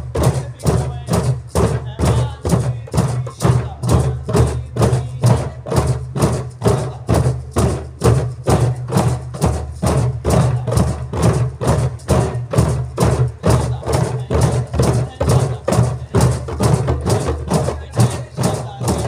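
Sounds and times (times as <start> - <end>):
djembes played by hand: 0.0 - 19.0.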